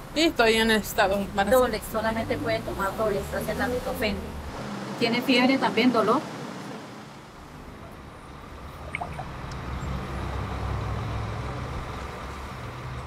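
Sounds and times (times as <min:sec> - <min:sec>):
vehicle engine rumble passing: 0:01.3 - 0:13.0.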